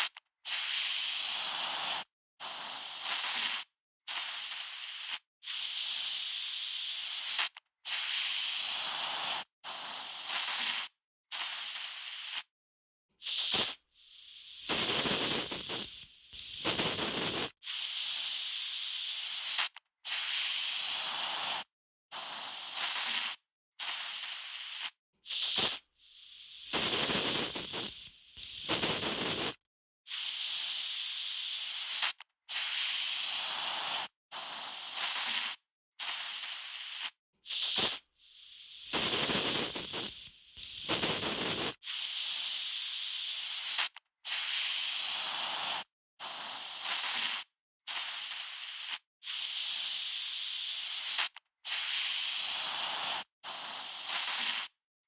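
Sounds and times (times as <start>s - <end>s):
aerosol spray can spraying: 0.0s - 12.5s, 13.2s - 54.8s.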